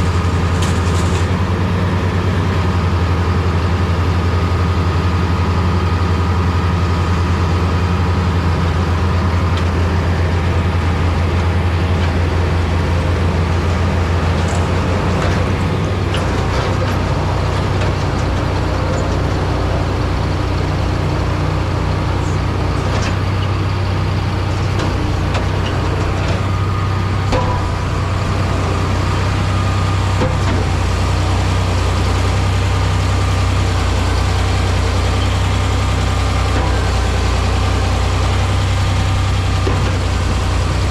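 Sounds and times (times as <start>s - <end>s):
diesel engine drone: 0.0s - 40.9s.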